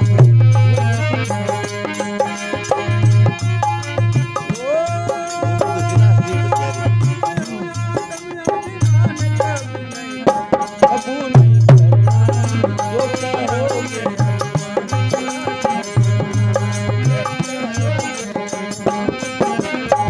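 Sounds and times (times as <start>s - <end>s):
steady drum beat: 0.0s - 9.7s, 10.3s - 20.0s.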